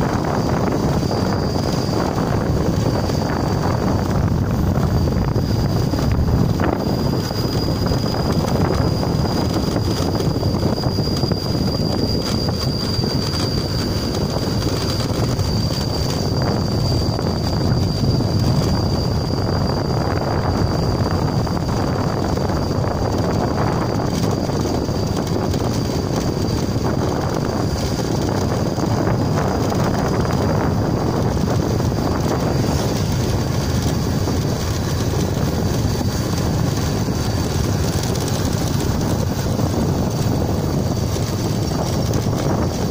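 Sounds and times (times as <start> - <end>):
vehicle road noise: 0.0 - 42.9
wind noise on microphone: 0.0 - 42.9.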